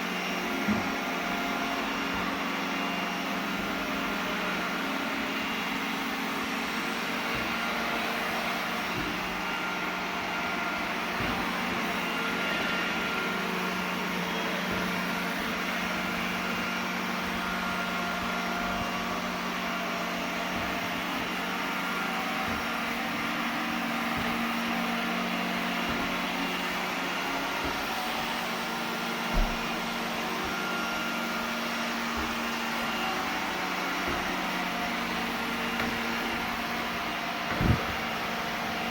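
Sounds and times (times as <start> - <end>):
robot vacuum whirring: 0.3 - 38.9.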